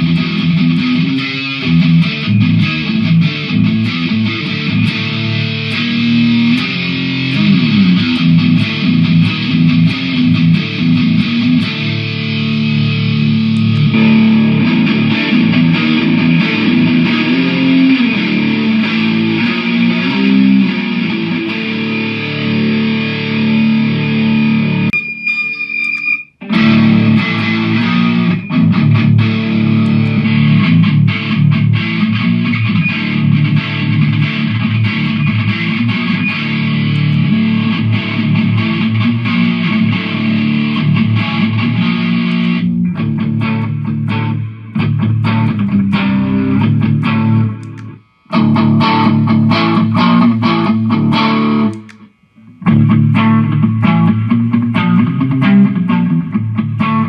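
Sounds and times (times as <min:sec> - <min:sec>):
distorted electric guitar riffs: 0:00.0 - 0:57.0.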